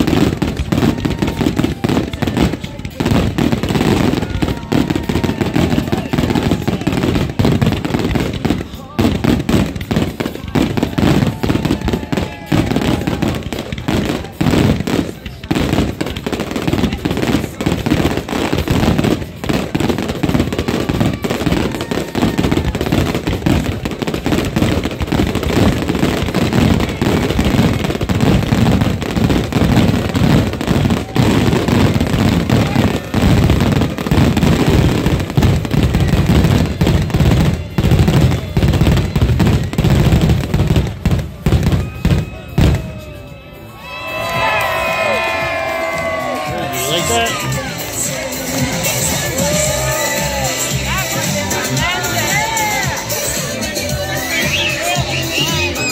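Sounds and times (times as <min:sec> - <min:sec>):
fireworks crackling and banging: 0:00.0 - 0:55.9.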